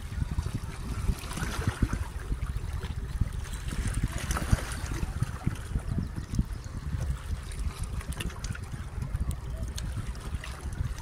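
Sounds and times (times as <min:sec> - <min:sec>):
water lapping among rocks: 0:00.0 - 0:11.0.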